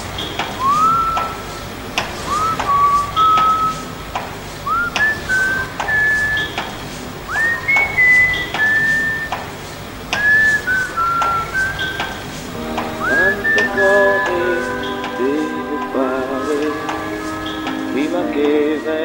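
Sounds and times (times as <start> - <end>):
light steady beat: 0.4 - 19.0
whistled melody: 0.6 - 4.0, 4.6 - 9.5, 10.2 - 19.0.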